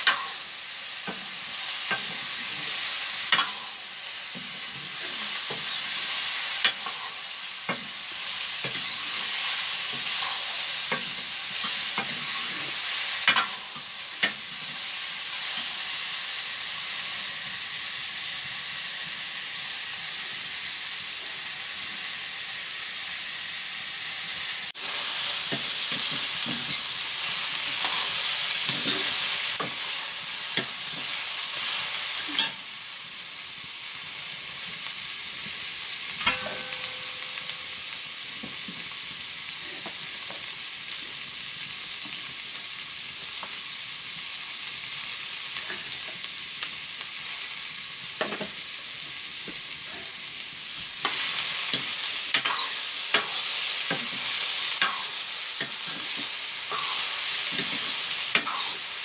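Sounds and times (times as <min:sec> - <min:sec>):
vegetables sizzling in wok: 0:00.0 - 0:59.0.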